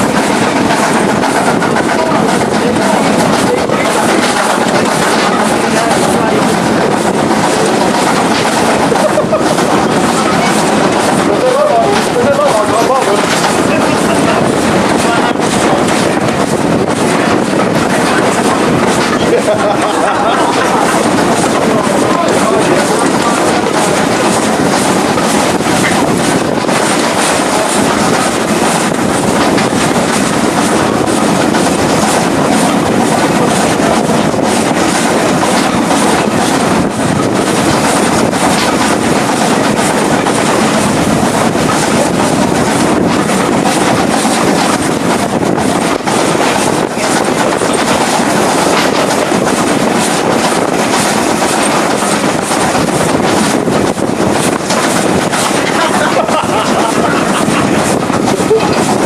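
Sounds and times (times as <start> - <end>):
train running noise: 0.0 - 59.0
wheels clicking over rail joints: 0.0 - 59.0.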